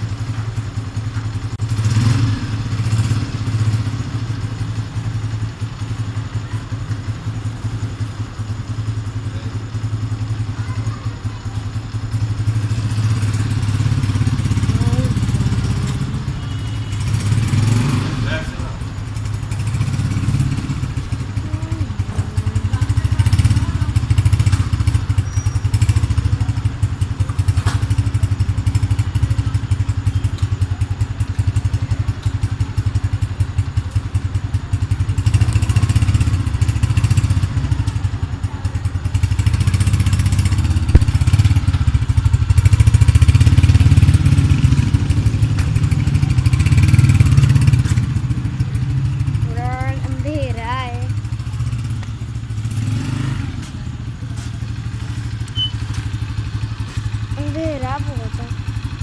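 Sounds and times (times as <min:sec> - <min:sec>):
motorcycle engine with loud exhaust: 0:00.0 - 0:59.0.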